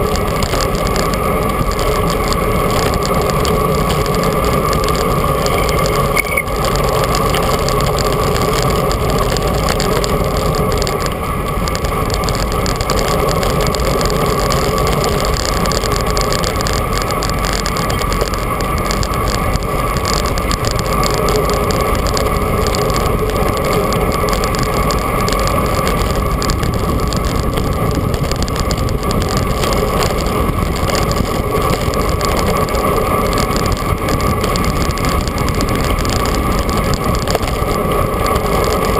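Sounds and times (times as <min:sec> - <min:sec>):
constant hum: 0:00.0 - 0:38.9
wind and road noise: 0:00.0 - 0:38.9.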